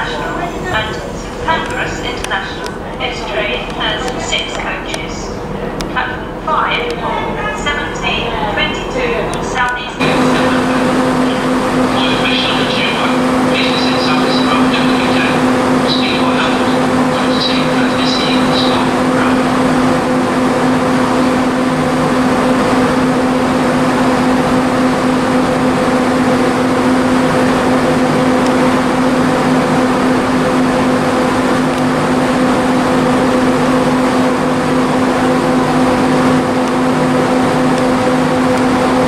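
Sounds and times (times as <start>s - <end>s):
electric train hum: 0.0s - 39.0s.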